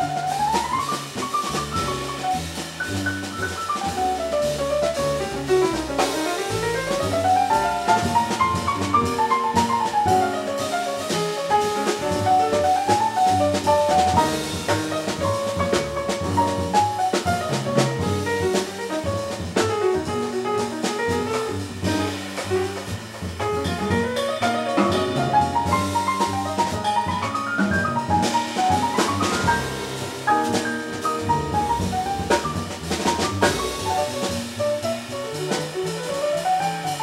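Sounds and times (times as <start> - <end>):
drum kit with cymbals: 0.0 - 37.0
piano fast melodic lines: 0.0 - 37.0
walking upright bass: 0.0 - 37.0.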